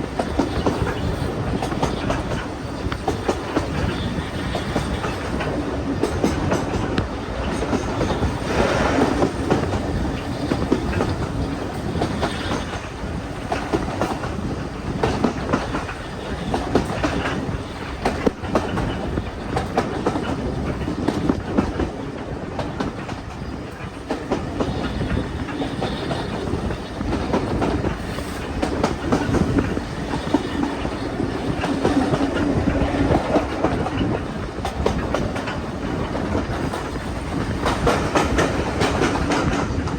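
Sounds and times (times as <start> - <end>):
train rumble: 0.0 - 39.9
wheels clacking over rail joints: 0.0 - 39.9.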